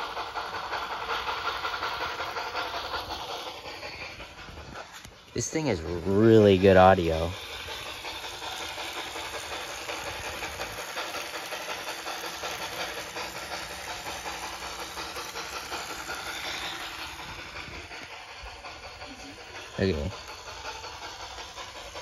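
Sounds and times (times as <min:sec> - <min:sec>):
model steam locomotive hissing: 0:00.0 - 0:22.0
quick regular steam chuff: 0:00.0 - 0:22.0.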